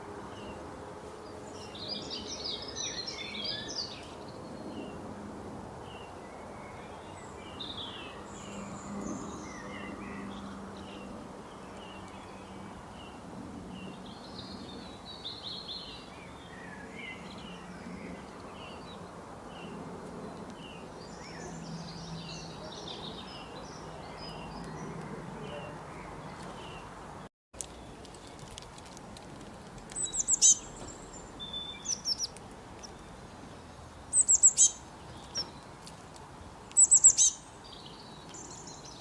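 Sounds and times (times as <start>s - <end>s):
outdoor background hiss: 0.0s - 39.0s
songbirds chirping: 0.0s - 39.0s.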